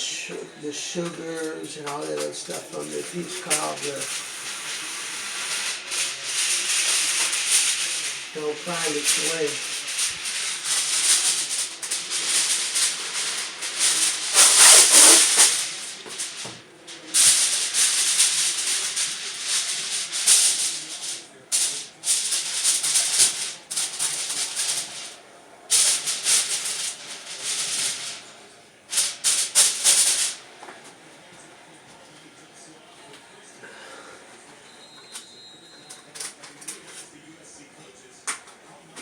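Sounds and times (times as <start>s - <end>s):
aluminium foil crinkling: 0.7s - 31.4s, 34.6s - 37.3s.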